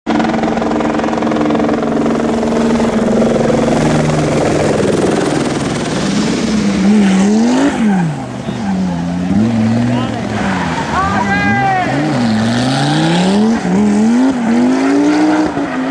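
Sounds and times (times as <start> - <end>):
rally car engine running: 0.1 - 15.9.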